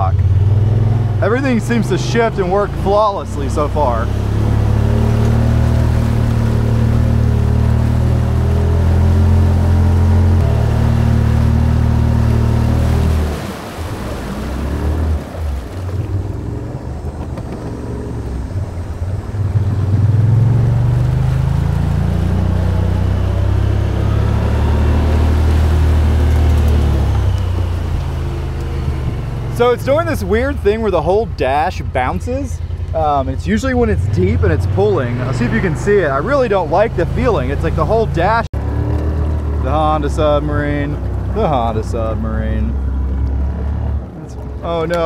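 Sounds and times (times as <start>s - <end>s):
vehicle engine running: 0.0s - 45.0s
water rushing and splashing: 0.0s - 45.0s.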